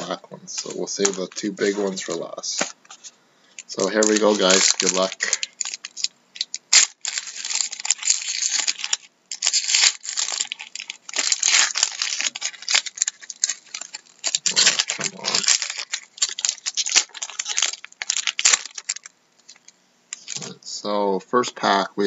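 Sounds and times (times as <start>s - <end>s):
foil wrapper tearing and crinkling: 0.0s - 20.5s.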